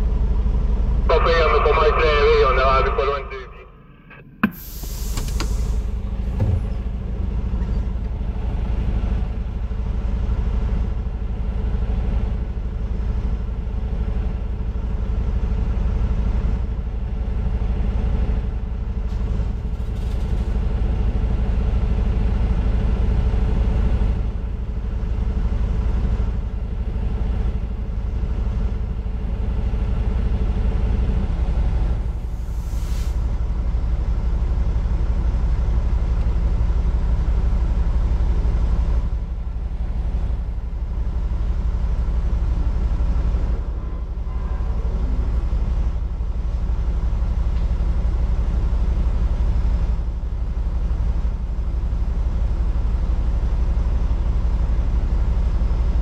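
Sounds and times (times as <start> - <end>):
diesel truck engine rumbling: 0.0 - 56.0.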